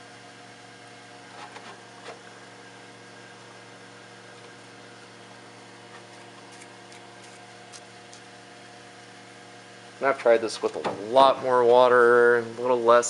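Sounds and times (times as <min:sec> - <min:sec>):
electrical hum and fan hiss: 0:00.0 - 0:13.0.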